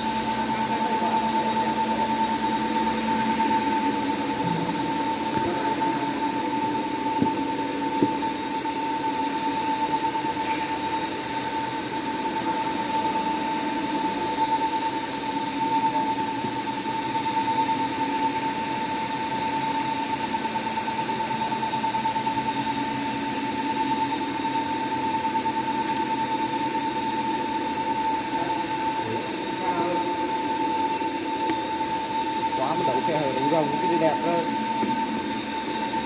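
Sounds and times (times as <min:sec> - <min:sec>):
welding arc hissing and whining: 0:00.0 - 0:36.0.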